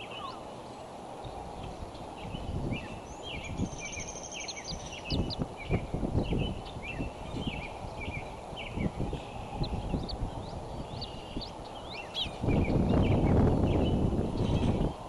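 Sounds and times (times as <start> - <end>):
small songbirds chirping: 0.0 - 15.0
bird trill: 2.0 - 14.9.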